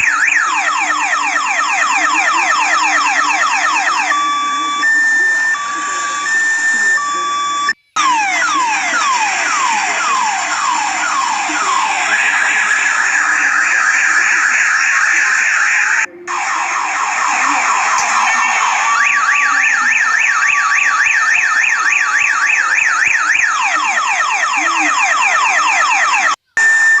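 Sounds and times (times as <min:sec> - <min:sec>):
electronic siren cycling tones: 0:00.0 - 0:27.0.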